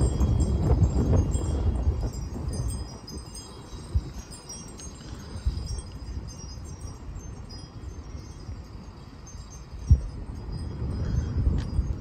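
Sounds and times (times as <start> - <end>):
metal wind chime ringing: 0.0 - 12.0
wind rumble on microphone: 0.0 - 12.0.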